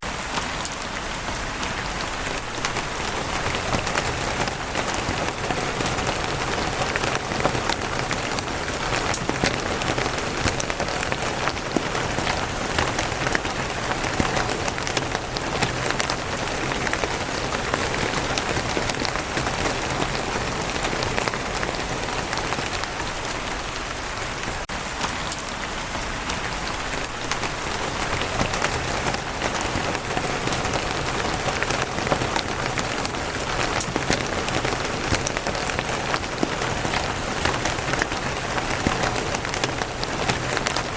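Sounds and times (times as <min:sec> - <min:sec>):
rain on a wooden roof: 0:00.0 - 0:40.9.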